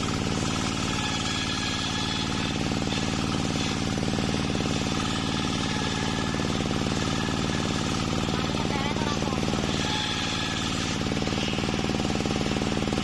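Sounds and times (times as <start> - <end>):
circular saw cutting wood: 0.0 - 13.0
engine running rapidly: 0.0 - 13.0.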